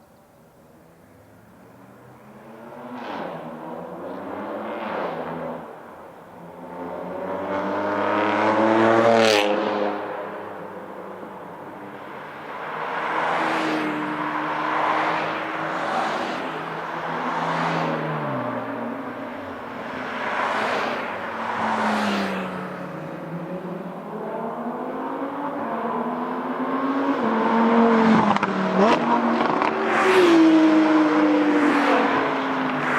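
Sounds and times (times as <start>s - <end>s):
car engine accelerating and revving: 2.1s - 5.8s, 6.4s - 32.9s.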